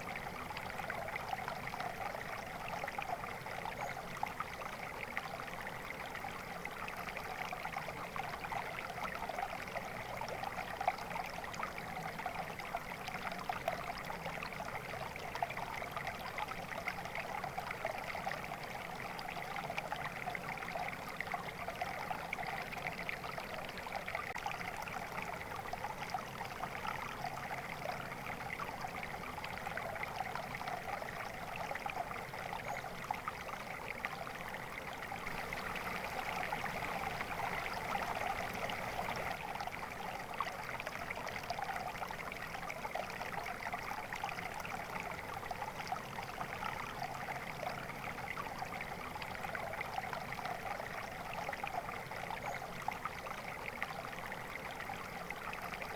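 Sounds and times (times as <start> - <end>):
stream babbling over stones: 0.0 - 55.9.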